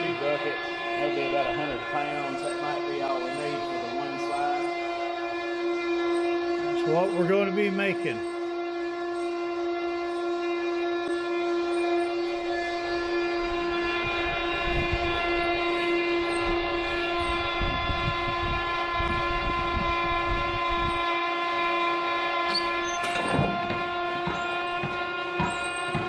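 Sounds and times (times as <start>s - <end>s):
low machine rumble: 0.0s - 26.0s
sand mixing machine whine: 0.0s - 26.0s.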